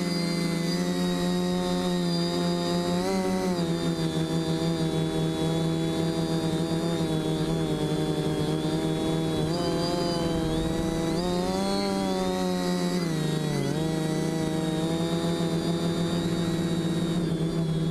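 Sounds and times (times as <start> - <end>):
quadcopter propellers whining: 0.0 - 17.9.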